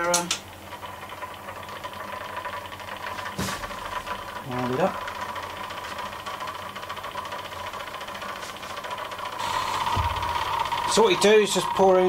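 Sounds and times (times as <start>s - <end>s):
magnetic stirrer humming and ticking: 0.0s - 12.0s.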